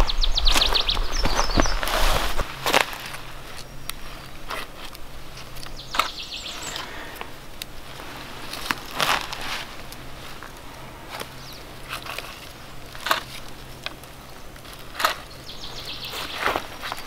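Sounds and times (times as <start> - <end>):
campfire crackling and popping: 0.0 - 17.0
steady low hum: 0.0 - 17.0.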